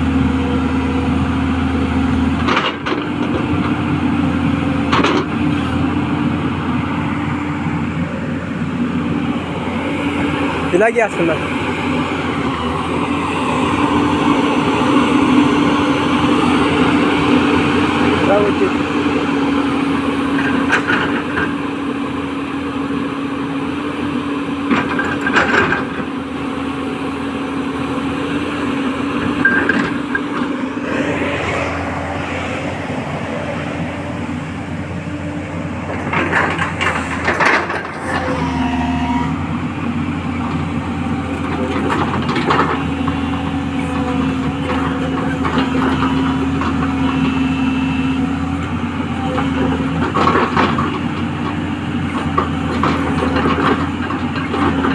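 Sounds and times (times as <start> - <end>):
excavator diesel engine: 0.0 - 54.9.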